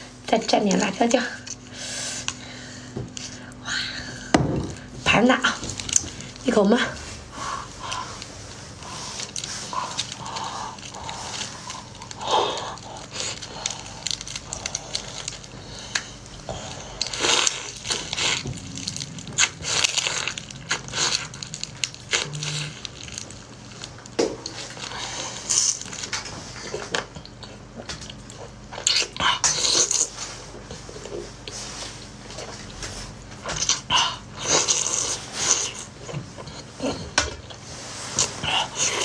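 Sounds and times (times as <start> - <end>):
slurping and chewing: 7.0 - 39.0.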